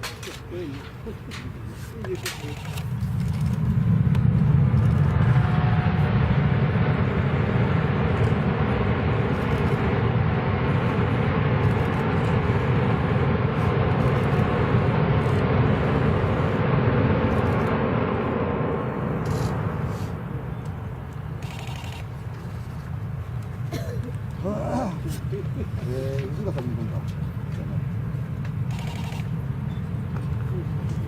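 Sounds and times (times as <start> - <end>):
jet engines deep rumble: 0.0 - 31.0.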